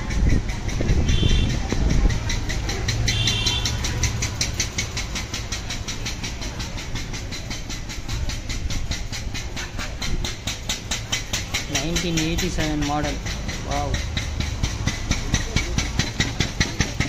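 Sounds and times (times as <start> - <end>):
rapid mechanical ticking: 0.0 - 17.0.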